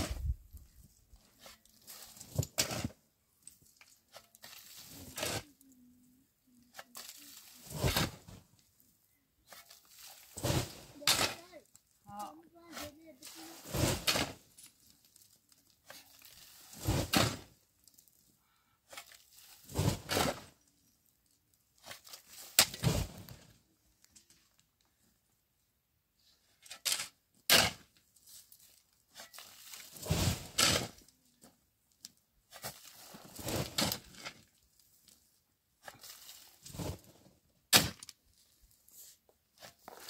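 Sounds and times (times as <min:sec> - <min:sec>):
tool scraping gravelly dirt: 0:00.0 - 0:05.6, 0:06.7 - 0:08.7, 0:09.4 - 0:18.1, 0:18.8 - 0:20.7, 0:21.7 - 0:23.6, 0:26.4 - 0:31.2, 0:32.4 - 0:40.0.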